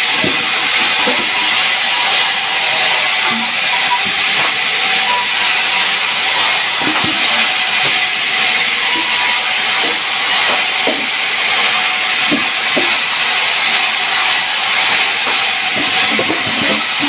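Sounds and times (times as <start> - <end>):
saw cutting through log: 0.0 - 17.0.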